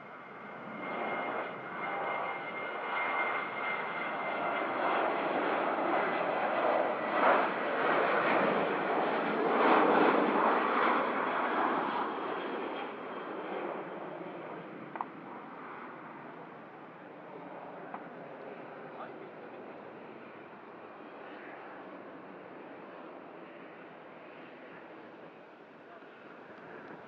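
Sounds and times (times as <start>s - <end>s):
airliner engines passing: 0.0s - 27.0s.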